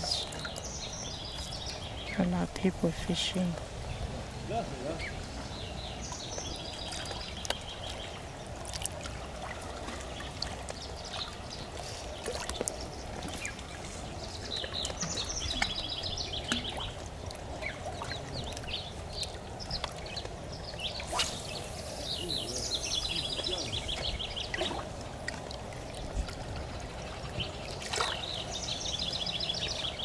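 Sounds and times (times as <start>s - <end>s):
birds chirping: 0.0s - 8.6s, 9.2s - 25.1s, 26.4s - 30.0s
river water trickling and lapping: 0.0s - 30.0s.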